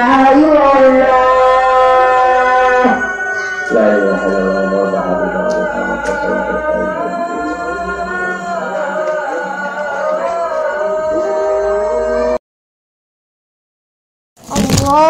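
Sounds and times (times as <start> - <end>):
person singing call to prayer: 0.0 - 12.4, 14.5 - 15.0.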